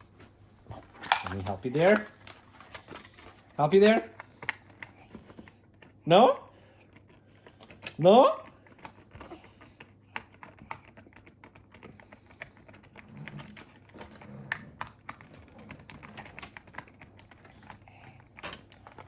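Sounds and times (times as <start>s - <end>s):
toy and packaging clicks and taps: 1.0s - 6.0s, 6.8s - 19.0s.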